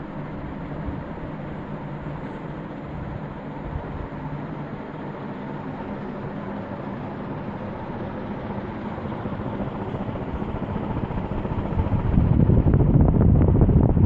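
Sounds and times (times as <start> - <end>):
ceiling fan air rush: 0.0 - 14.0
fan motor low hum: 0.0 - 14.0.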